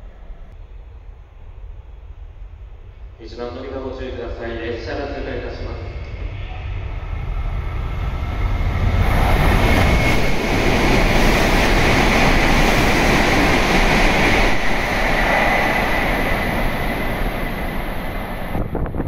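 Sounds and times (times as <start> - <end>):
train rushing past: 0.0 - 19.0.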